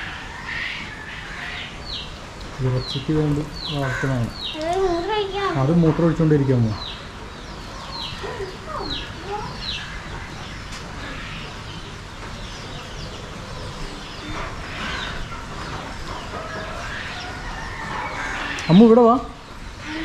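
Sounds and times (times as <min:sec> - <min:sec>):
chickens chirping: 0:00.0 - 0:20.0
chickens clucking: 0:00.0 - 0:20.0.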